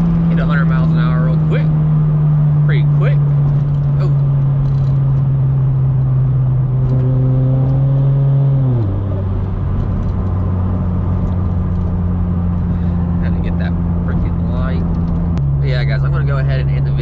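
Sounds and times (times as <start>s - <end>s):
car engine droning while driving: 0.0s - 17.0s.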